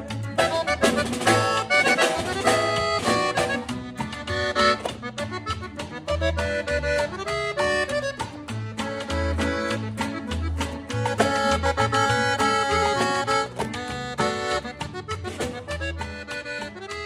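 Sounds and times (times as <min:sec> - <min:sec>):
accordion-led latin music: 0:00.0 - 0:17.0.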